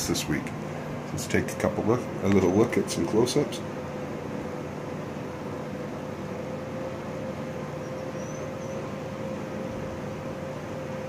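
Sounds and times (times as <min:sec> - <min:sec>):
ventilation fans whirring hum: 0:00.0 - 0:11.0.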